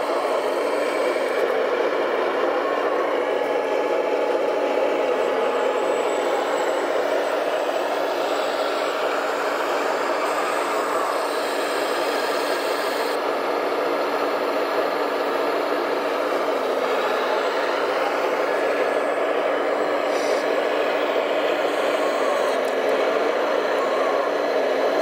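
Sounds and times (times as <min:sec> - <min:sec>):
hydraulic pump whining: 0:00.0 - 0:25.0.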